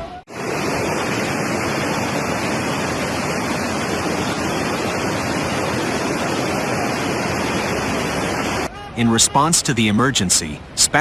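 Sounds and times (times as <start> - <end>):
floodwater rushing: 0.3 - 11.0.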